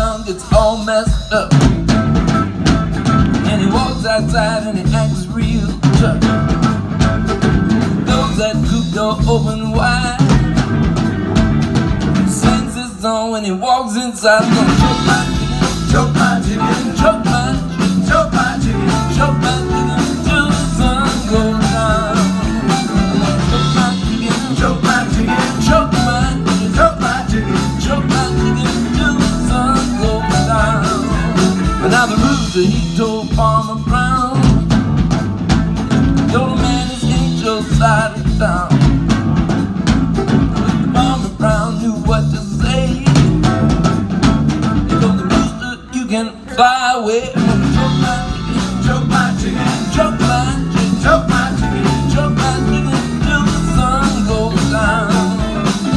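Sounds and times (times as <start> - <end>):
man singing: 0.0 - 1.9, 3.3 - 6.8, 8.0 - 10.7, 12.2 - 34.9, 36.1 - 39.0, 40.6 - 43.9, 44.8 - 55.9
band playing live: 0.0 - 55.9.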